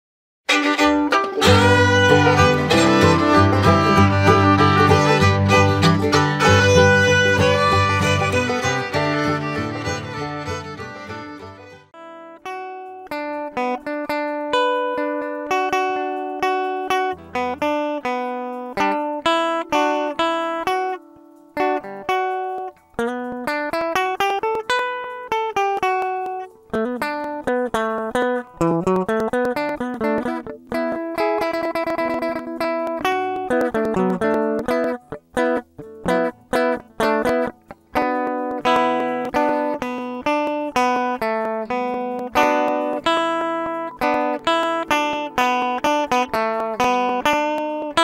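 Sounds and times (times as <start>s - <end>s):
guitar plucked note by note: 0.5s - 48.0s.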